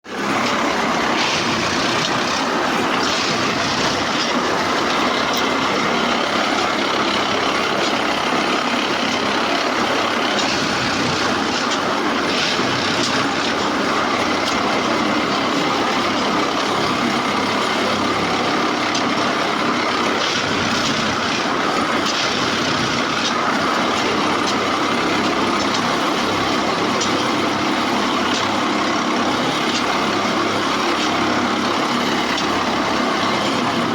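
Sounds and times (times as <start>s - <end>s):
track maintenance machine working: 0.0s - 33.9s.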